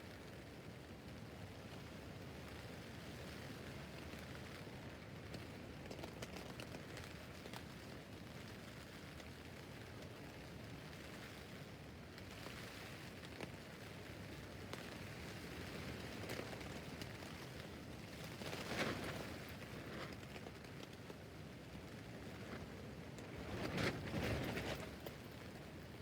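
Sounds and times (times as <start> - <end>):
rain on a tent roof: 0.0 - 26.0.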